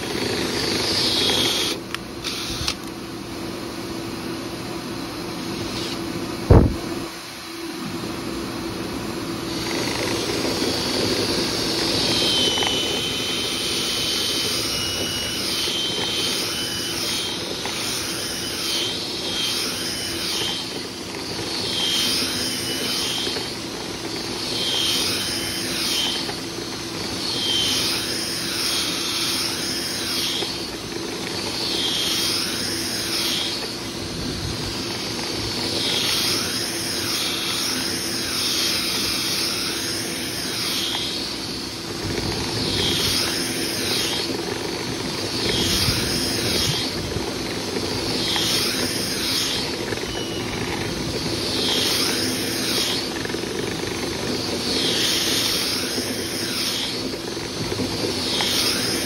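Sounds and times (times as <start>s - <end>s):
vent cleaning motor drone: 0.0s - 59.0s.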